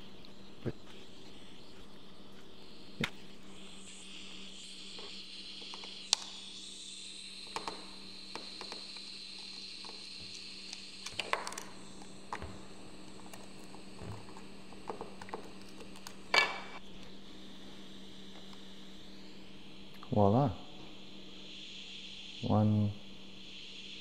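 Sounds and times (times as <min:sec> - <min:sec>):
faint steady hum: 0:00.0 - 0:24.0
soldering iron hissing: 0:00.0 - 0:24.0.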